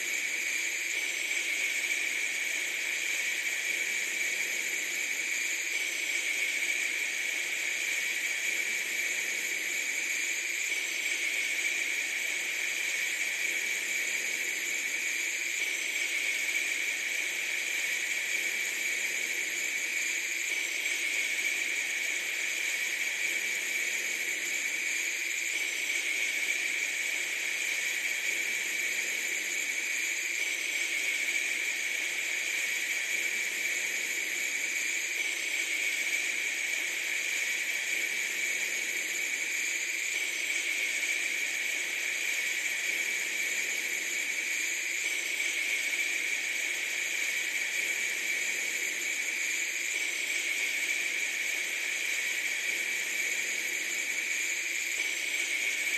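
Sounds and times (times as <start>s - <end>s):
steady hissing noise: 0.0s - 55.9s.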